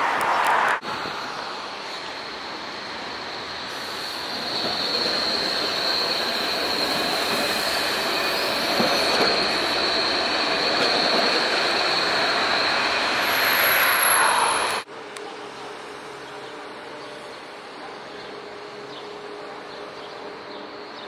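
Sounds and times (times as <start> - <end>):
tram wheels squealing: 0.8 - 21.0.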